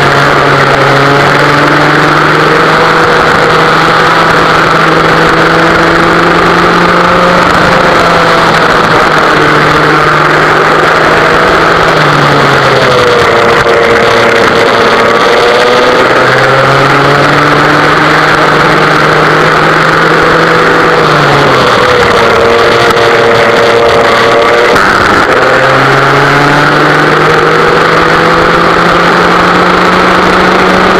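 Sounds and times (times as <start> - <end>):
kart engine running hard: 0.0 - 30.9.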